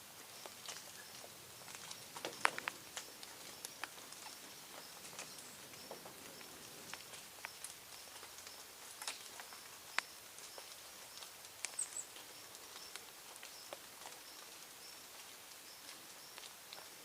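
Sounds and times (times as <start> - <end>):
birds tapping: 0.4 - 14.4.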